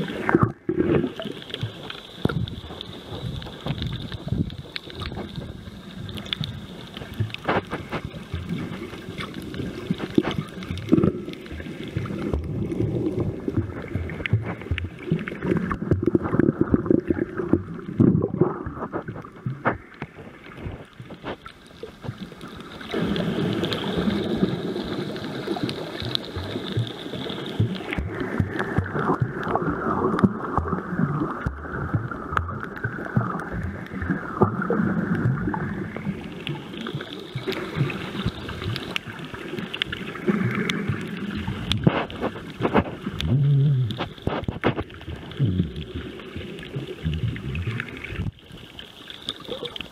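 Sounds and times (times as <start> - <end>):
small underwater clicks and knocks: 0.0 - 49.9
underwater water rushing and gurgling: 0.0 - 49.9.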